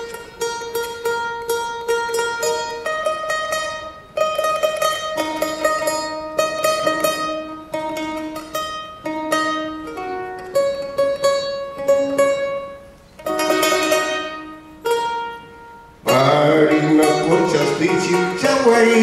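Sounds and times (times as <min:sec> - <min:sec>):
charango strummed chords: 0:00.0 - 0:19.0
plucked charango melody notes: 0:00.0 - 0:19.0.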